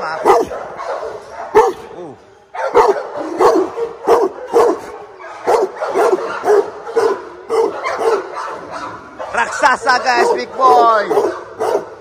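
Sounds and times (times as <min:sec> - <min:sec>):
dog barking loudly: 0:00.0 - 0:01.9, 0:02.5 - 0:12.0.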